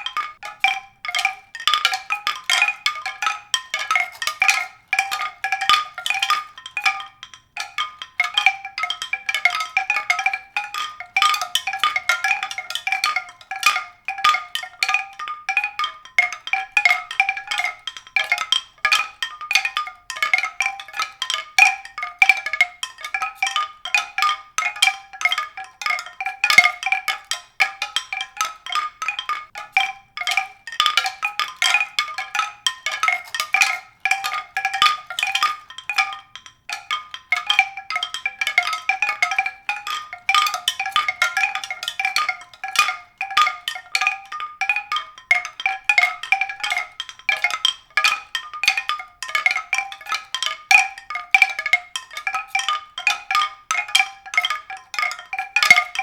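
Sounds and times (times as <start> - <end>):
mallet percussion music: 0.0 - 56.0.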